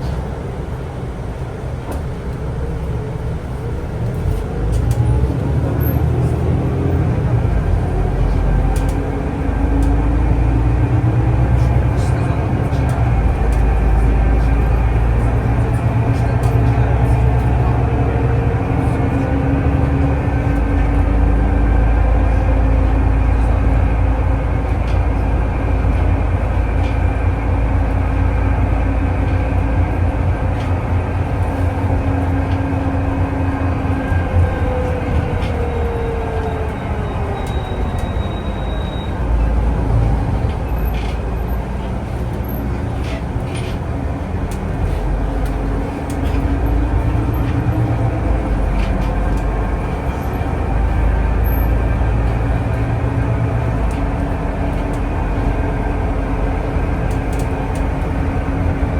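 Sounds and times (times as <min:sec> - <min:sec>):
vehicle interior rumble: 0:00.0 - 0:58.9.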